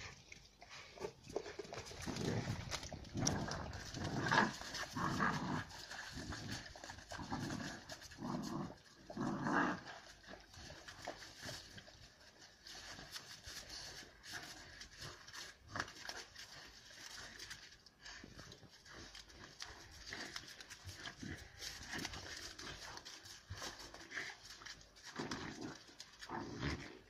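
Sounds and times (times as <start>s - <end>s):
puppies scuffling: 0.0s - 26.8s
puppies growling: 0.0s - 27.0s.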